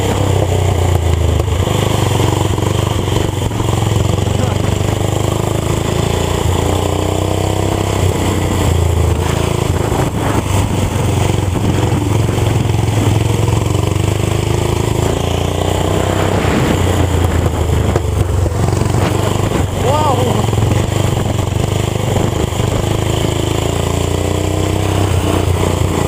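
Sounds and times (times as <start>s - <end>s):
small engine revving high: 0.0s - 26.0s.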